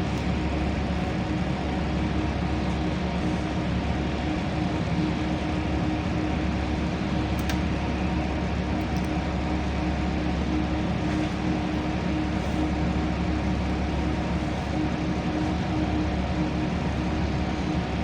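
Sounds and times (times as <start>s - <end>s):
bus engine hum: 0.0s - 18.0s.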